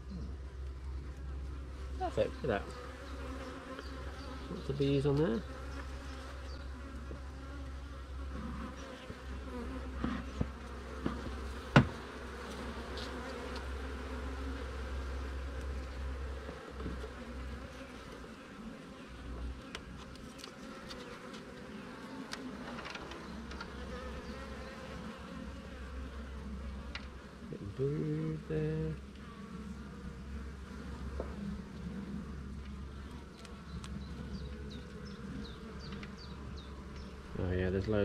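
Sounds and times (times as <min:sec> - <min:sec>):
honey bees buzzing: 0:00.0 - 0:38.0.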